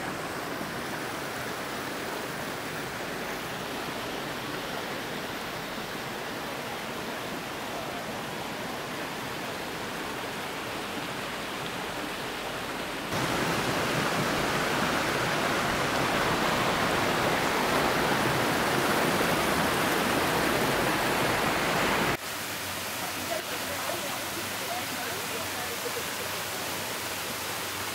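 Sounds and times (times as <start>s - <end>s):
water rushing over rocks: 0.0s - 27.9s.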